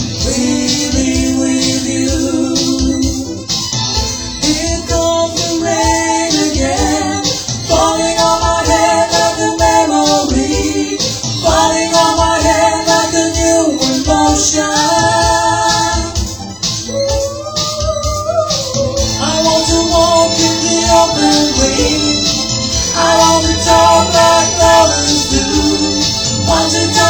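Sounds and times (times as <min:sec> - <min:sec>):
backing track with ticking beat: 0:00.0 - 0:27.0
women singing long notes: 0:04.4 - 0:16.3, 0:16.9 - 0:27.0.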